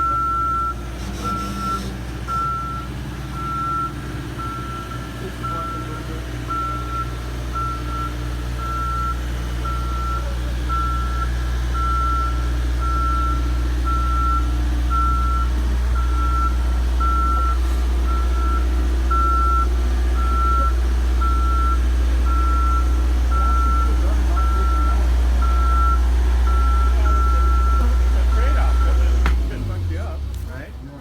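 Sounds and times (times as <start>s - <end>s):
motion alarm beeping: 0.0s - 29.2s.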